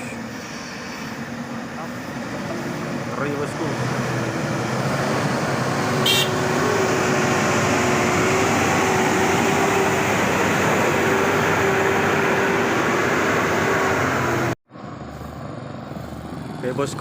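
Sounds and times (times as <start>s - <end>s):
diesel truck engine under load: 0.0s - 17.0s
whine over engine: 0.0s - 17.0s.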